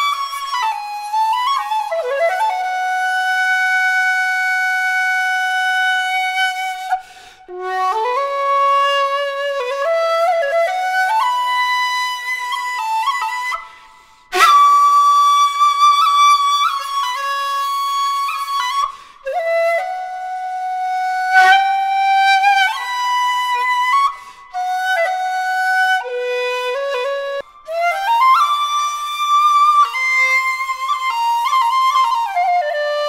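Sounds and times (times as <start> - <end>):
bamboo flute held notes: 0.0 - 33.0.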